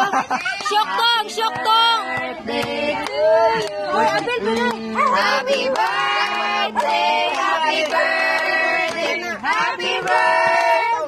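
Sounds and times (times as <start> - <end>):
group singing: 0.7 - 11.0.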